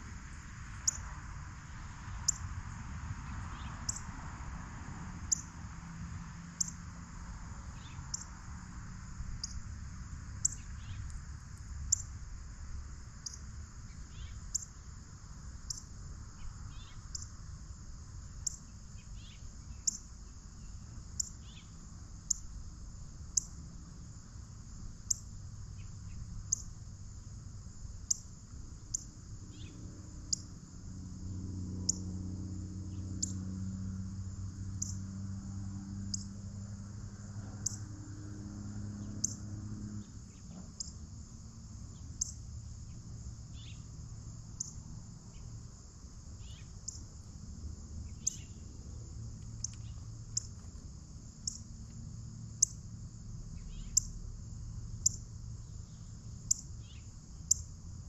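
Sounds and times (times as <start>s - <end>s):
cricket-like chirping: 0.0s - 58.0s
high insect drone: 0.0s - 58.0s.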